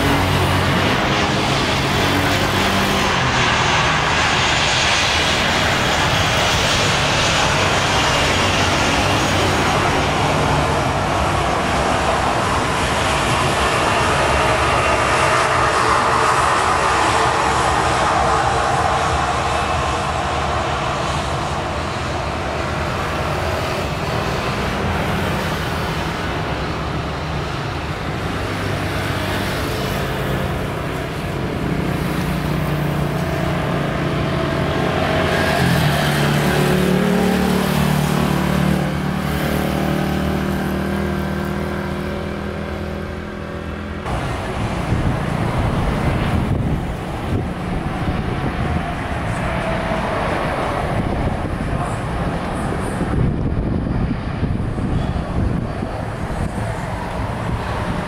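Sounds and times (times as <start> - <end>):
jet engines at high power: 0.0 - 58.0.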